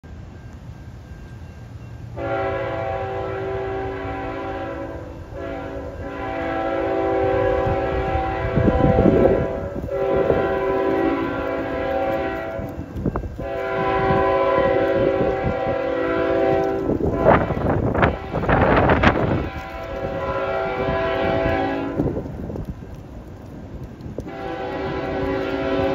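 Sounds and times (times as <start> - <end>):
low train rumble: 0.0 - 25.9
locomotive air horn blasts: 2.2 - 22.2, 24.2 - 25.9
wind noise on microphone: 3.6 - 25.9.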